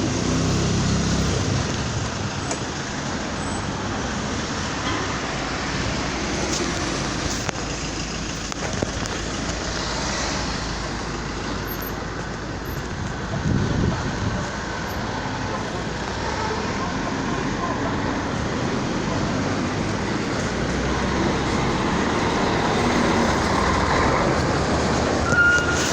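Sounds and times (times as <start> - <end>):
traffic rumble and hiss: 0.0 - 25.9.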